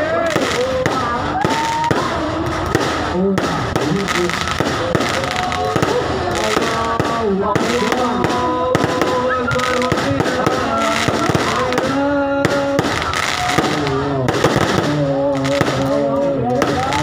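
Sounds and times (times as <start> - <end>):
fireworks cracking and popping: 0.0 - 17.0.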